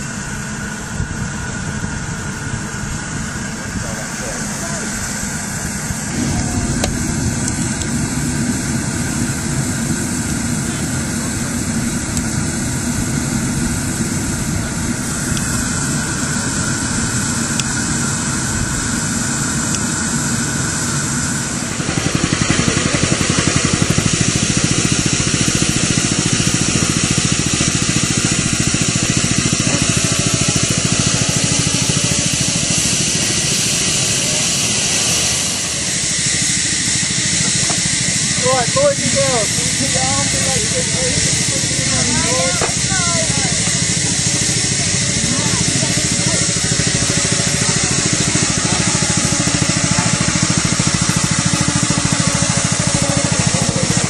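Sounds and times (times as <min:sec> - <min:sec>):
miniature steam locomotive hissing: 0:00.0 - 0:54.0.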